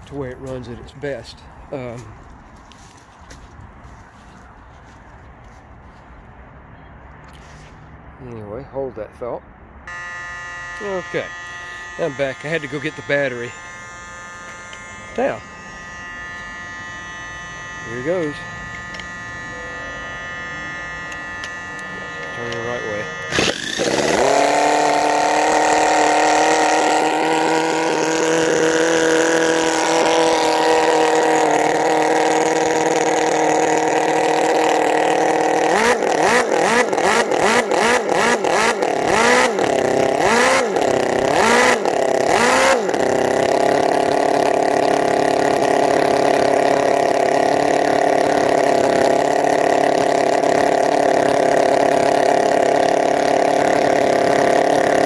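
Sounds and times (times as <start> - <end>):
model engine running: 9.9 - 55.0.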